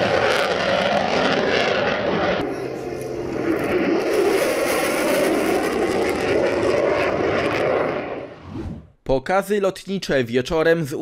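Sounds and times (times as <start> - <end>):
jet engine roar: 0.0 - 9.0.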